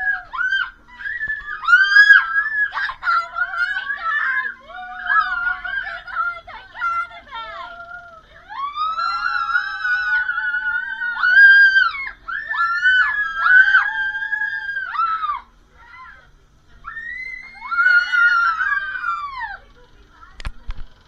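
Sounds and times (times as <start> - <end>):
voices squealing and screaming: 0.0 - 19.8.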